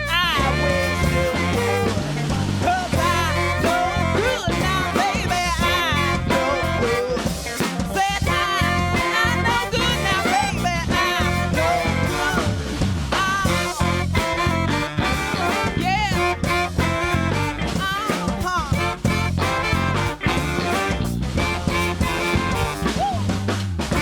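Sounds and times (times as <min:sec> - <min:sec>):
bass and drum groove: 0:00.0 - 0:24.0
live band playing: 0:00.0 - 0:24.0.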